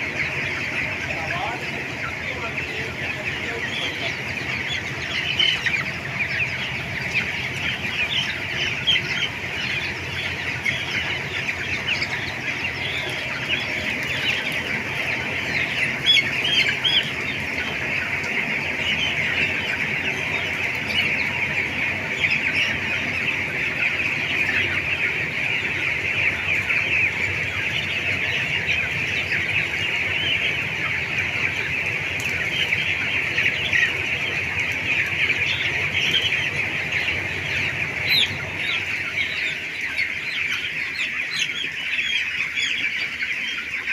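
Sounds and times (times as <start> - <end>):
chickens clucking and cheeping: 0.0 - 43.9.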